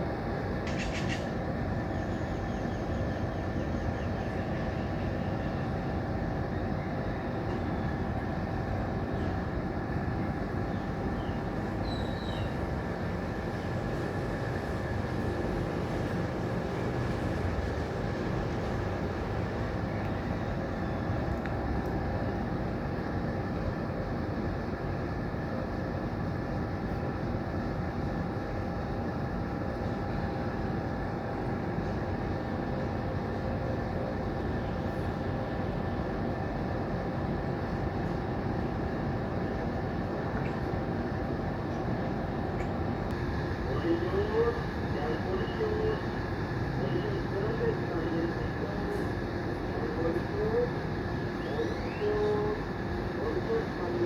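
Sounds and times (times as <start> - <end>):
rumbling background hum: 0.0 - 54.0.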